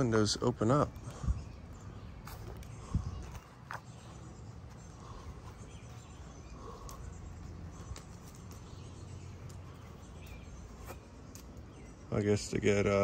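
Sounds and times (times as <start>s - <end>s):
soft footsteps on grass: 0.0s - 12.0s.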